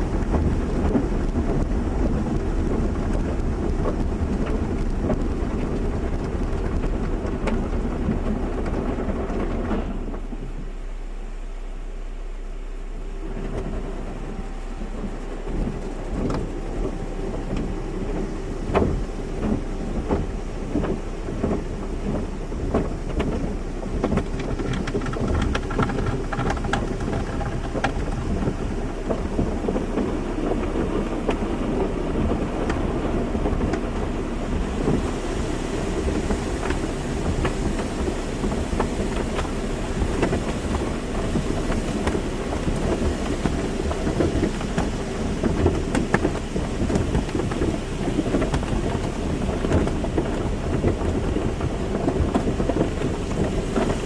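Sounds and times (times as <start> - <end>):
machinery hum: 0.0 - 54.0
water spray splashing on car: 0.0 - 54.0.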